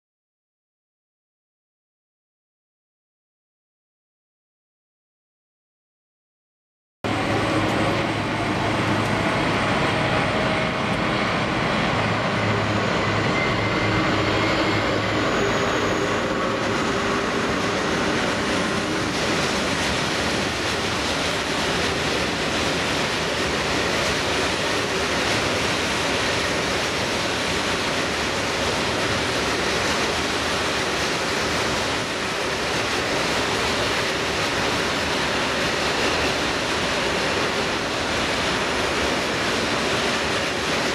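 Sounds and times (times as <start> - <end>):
diesel locomotive engines droning: 7.0 - 40.9.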